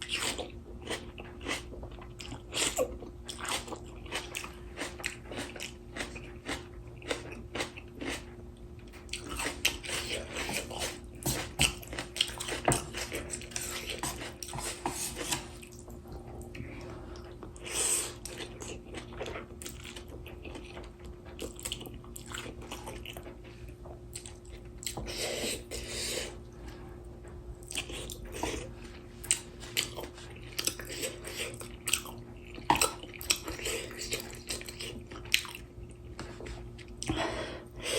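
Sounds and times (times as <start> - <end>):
chewing and crunching: 0.0 - 25.9, 27.6 - 37.2.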